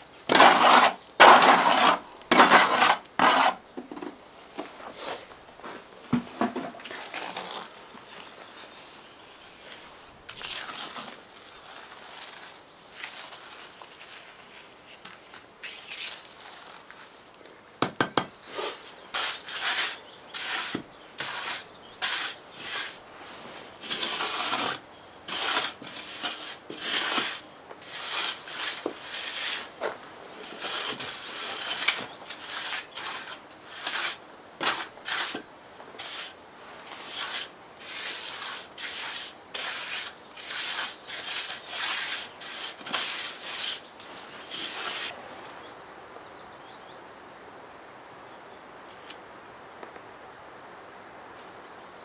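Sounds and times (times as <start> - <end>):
hand tool scraping strokes: 0.0 - 4.1, 4.8 - 8.6, 9.6 - 17.2, 18.4 - 45.2.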